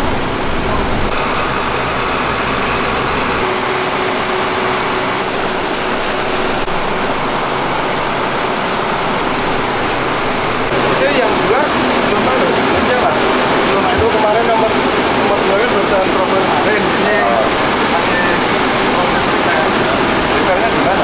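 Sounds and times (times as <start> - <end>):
pumps running: 0.0 - 21.0
water churning from pipes: 0.0 - 21.0.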